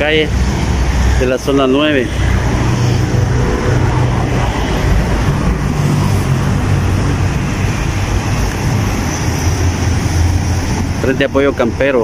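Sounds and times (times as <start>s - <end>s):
road noise: 0.0s - 12.0s
vehicle engines running: 0.0s - 12.0s.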